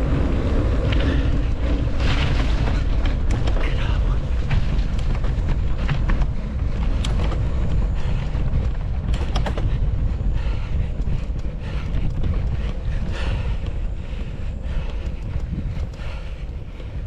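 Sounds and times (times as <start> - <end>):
bike clicks and rattles: 0.0 - 17.0
wind buffeting microphone: 0.0 - 17.0.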